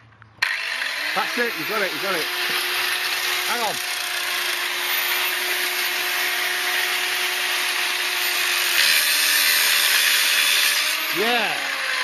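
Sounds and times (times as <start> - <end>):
angle grinder grinding metal: 0.4 - 12.0.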